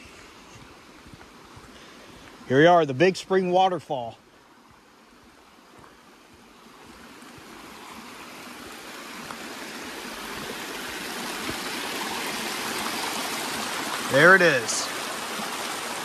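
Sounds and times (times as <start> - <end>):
water cascading over rocks: 0.0 - 16.0.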